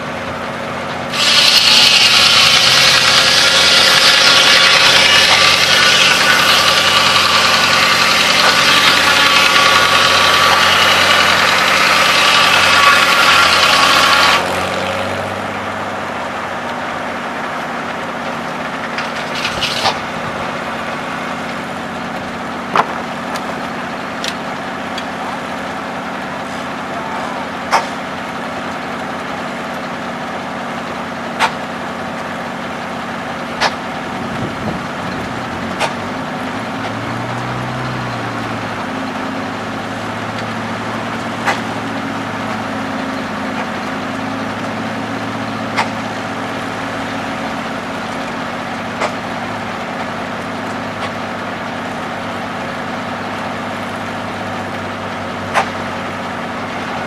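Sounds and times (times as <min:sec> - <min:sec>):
sawmill engine droning: 0:00.0 - 0:57.0.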